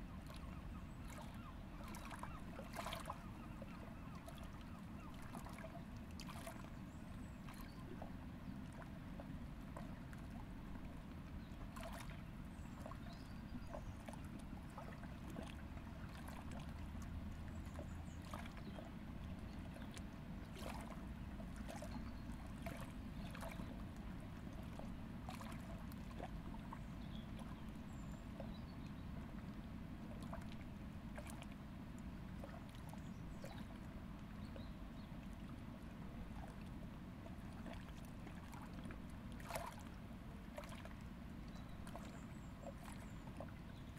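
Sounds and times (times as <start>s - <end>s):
low steady rumble: 0.0s - 43.9s
river water lapping: 0.0s - 43.9s.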